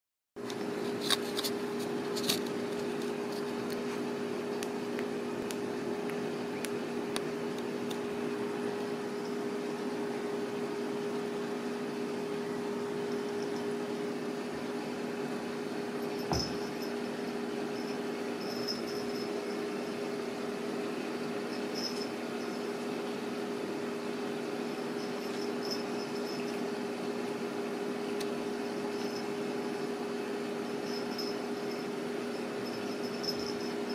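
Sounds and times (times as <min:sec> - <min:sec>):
low mechanical hum: 0:00.4 - 0:33.9.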